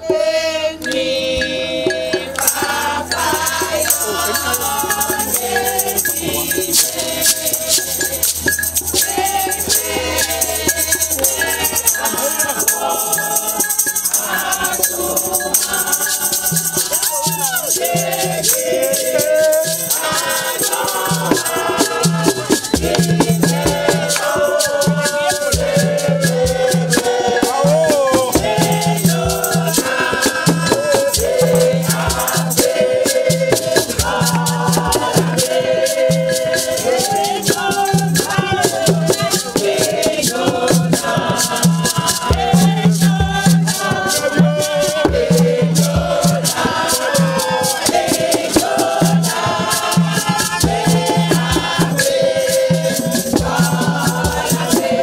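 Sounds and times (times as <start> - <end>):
group singing: 0.0 - 55.0
shaker rattle: 2.2 - 55.0.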